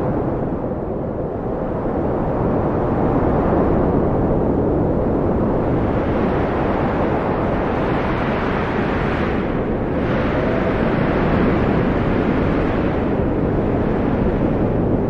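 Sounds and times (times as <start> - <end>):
howling blizzard wind: 0.0 - 15.0.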